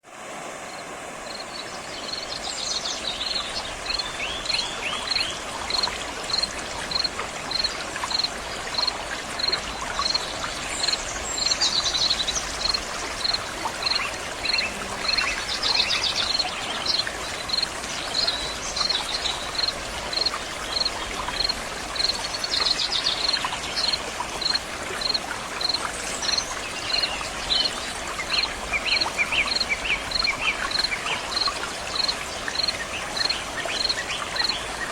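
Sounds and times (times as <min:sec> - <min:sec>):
stream water rushing: 0:00.0 - 0:34.9
insect chirping: 0:00.6 - 0:34.6.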